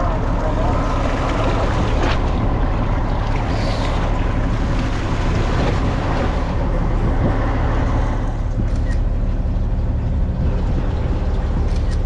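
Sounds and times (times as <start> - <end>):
boat engine humming: 0.0 - 12.0
sea wash: 0.0 - 12.0
wind: 0.0 - 12.0.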